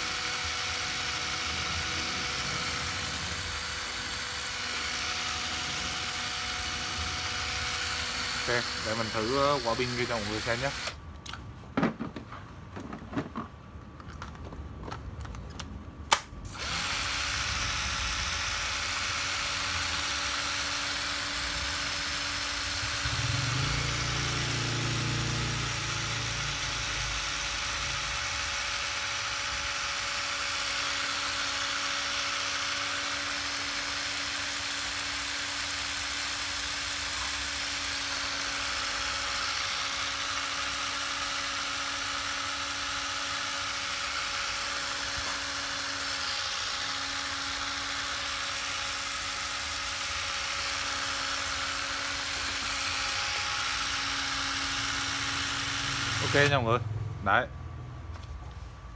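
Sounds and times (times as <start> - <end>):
cordless drill motor running: 0.0 - 11.0, 16.5 - 56.8.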